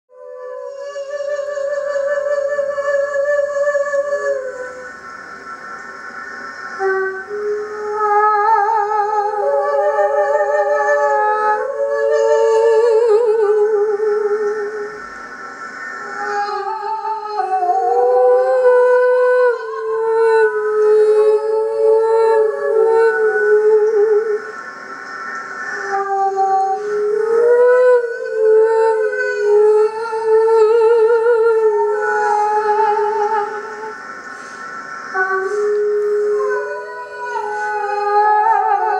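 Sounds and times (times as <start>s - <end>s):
higher voice singing: 0.1s - 5.1s, 6.5s - 15.2s, 15.8s - 24.6s, 25.6s - 38.9s
voices singing long notes: 0.1s - 38.9s.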